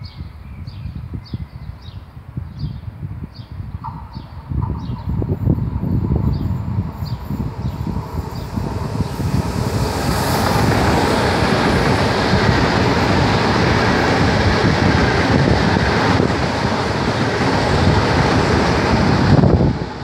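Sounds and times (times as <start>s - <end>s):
high-speed train passing: 1.8s - 20.0s.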